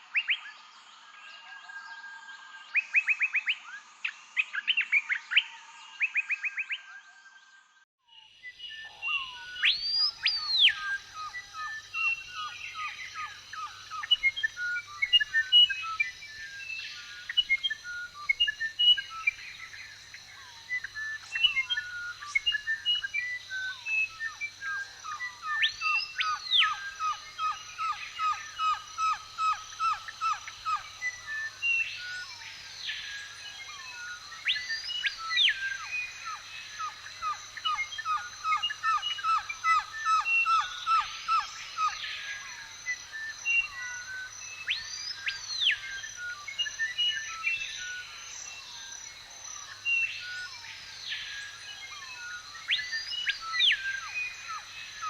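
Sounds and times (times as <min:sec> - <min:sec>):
songbirds chirping and singing: 0:00.2 - 0:55.0.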